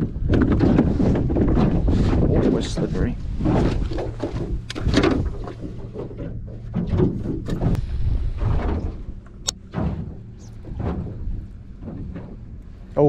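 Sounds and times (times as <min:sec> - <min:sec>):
fishing gear bumping and scraping: 0:00.0 - 0:13.0.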